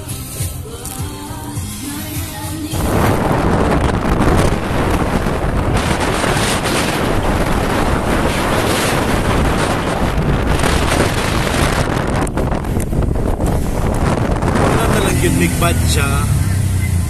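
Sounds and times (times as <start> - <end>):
wind rushing over microphone: 1.5 - 17.0.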